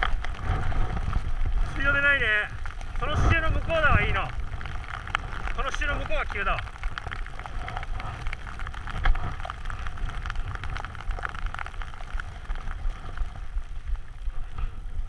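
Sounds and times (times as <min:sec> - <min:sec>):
snow spray ticking on camera: 0:00.0 - 0:14.8
wind rushing over microphone: 0:00.0 - 0:15.0.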